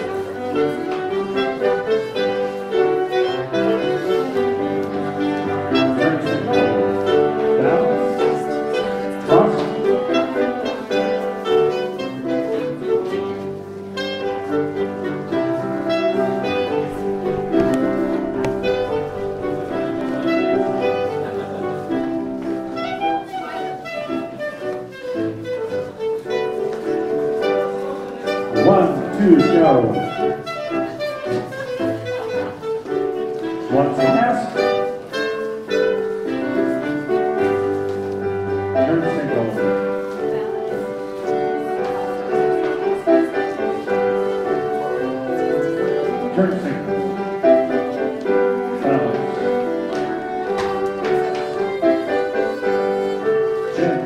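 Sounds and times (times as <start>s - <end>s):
dance band playing: 0.0s - 54.0s
fiddle and bowed strings: 0.0s - 54.0s.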